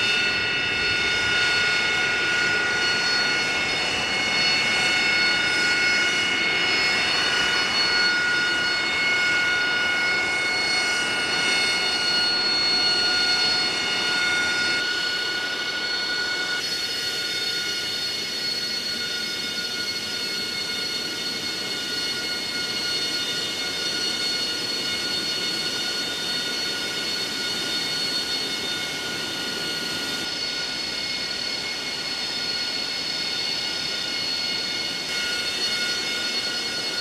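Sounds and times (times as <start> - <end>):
jet engine idling whine: 0.0 - 37.0.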